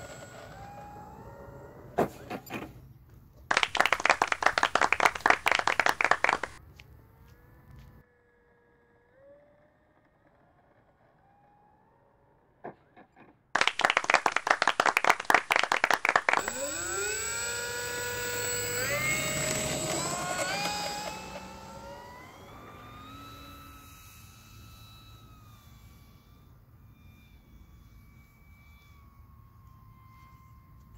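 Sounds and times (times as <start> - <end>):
electric motor whine: 0.0 - 3.2, 3.8 - 12.6, 13.6 - 30.9.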